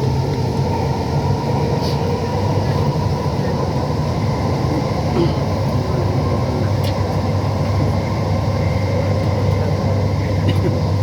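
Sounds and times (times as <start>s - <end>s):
train rumble and hum: 0.0s - 11.0s.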